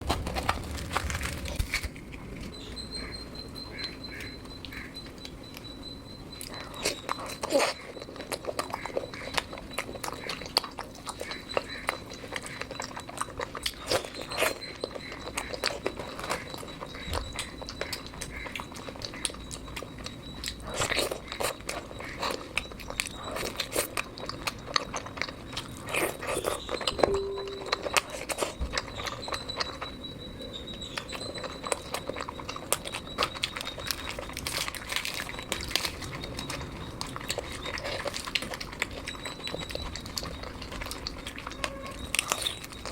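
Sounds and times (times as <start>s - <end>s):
person chewing and biting: 0.0s - 30.0s, 30.7s - 42.9s.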